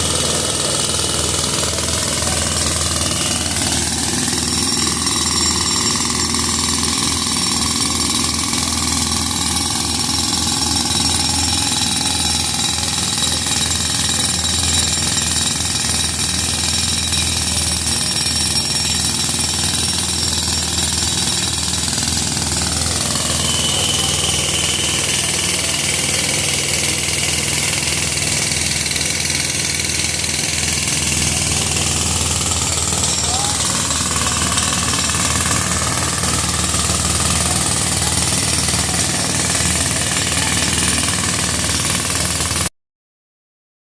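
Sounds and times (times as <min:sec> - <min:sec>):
jackhammer breaking pavement: 0:00.0 - 0:42.7.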